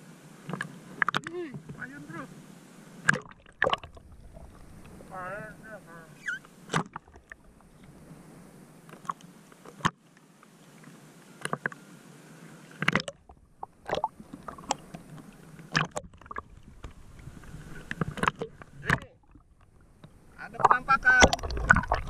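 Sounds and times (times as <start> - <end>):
small waves splashing: 0.0 - 22.0
sea water sloshing: 0.4 - 11.7, 12.8 - 22.0.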